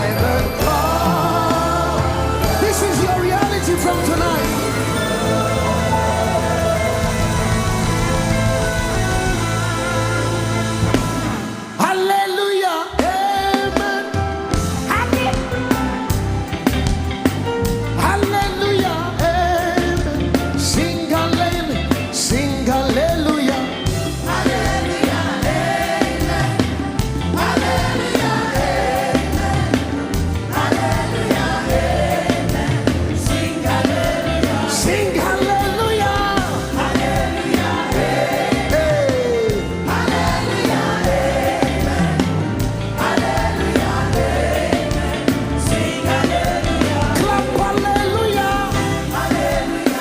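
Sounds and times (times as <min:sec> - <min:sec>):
band with strong bass beat: 0:00.0 - 0:12.2, 0:13.0 - 0:50.0
voices singing along: 0:00.0 - 0:14.1, 0:23.2 - 0:50.0.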